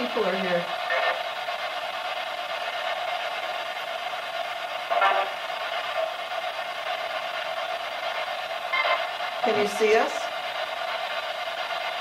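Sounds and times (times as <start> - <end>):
mid-pitched hum: 0.0 - 12.0.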